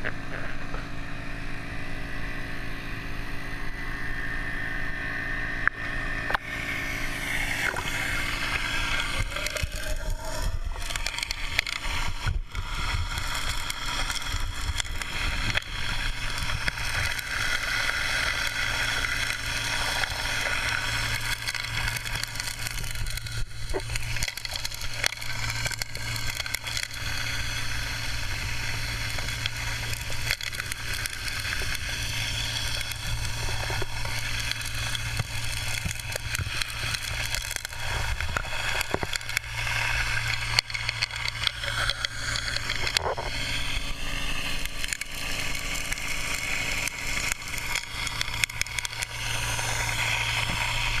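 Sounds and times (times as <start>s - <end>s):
low pump engine hum: 0.0s - 51.0s
gravel clicking and crackling: 5.6s - 51.0s.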